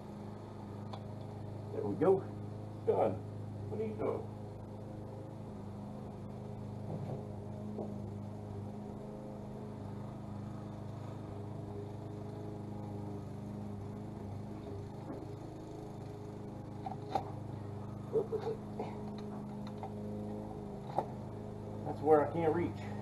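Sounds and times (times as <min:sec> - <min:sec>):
distant lawn mower engine: 0:00.0 - 0:23.0.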